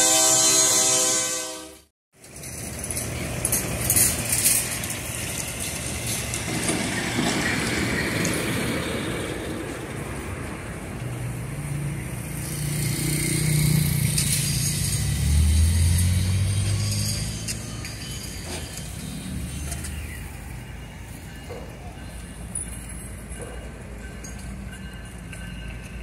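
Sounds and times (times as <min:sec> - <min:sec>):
locomotive engine hum: 0:02.2 - 0:26.0
traffic noise: 0:02.2 - 0:26.0.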